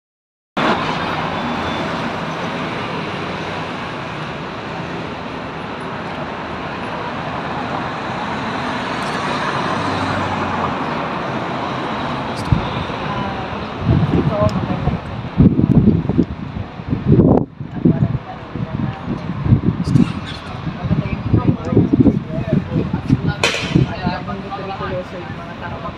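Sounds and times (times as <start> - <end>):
street traffic: 0.6 - 25.9.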